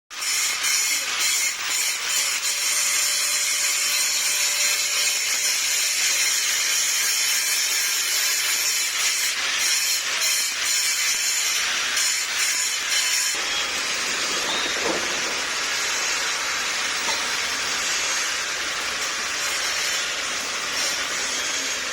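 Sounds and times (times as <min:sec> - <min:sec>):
welding arc hissing: 0:00.1 - 0:21.9.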